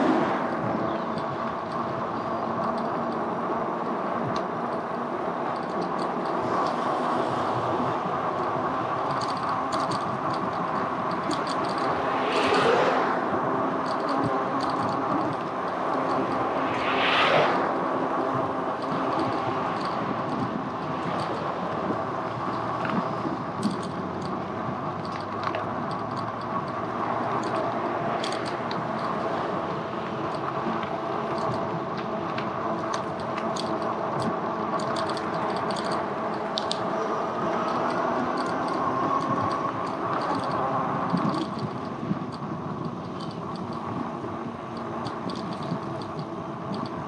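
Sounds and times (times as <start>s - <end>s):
e-bike motor hum: 0.0s - 47.0s
road and wind noise: 0.0s - 47.0s.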